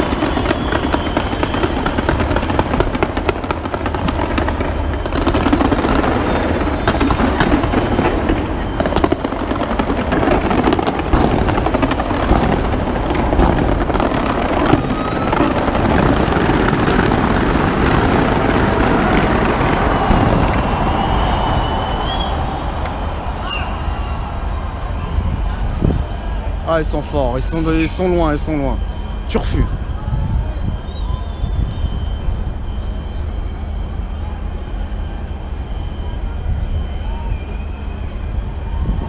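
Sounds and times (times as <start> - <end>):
fireworks bursting and crackling: 0.0 - 39.0.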